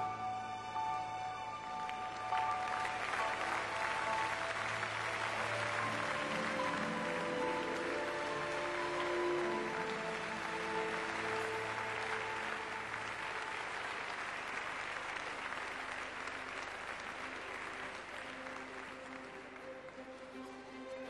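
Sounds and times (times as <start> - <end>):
audience applauding: 0.7 - 21.0.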